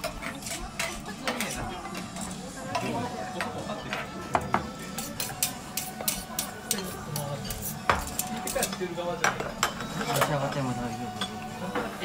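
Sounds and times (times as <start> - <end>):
cutlery and dishes clinking: 0.0 - 12.0.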